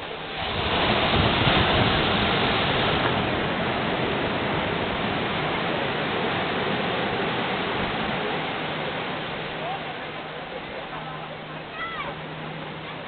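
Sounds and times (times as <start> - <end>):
sea surf rushing onto shore: 0.0 - 13.0.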